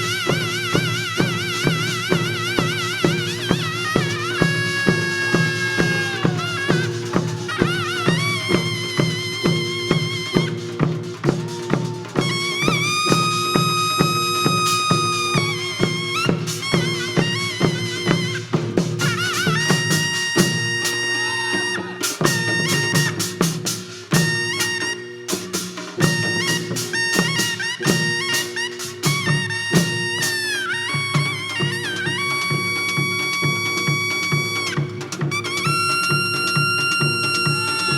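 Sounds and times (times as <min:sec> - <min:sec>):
high wind instrument melody: 0:00.0 - 0:37.9
steady drum beats: 0:00.0 - 0:37.9.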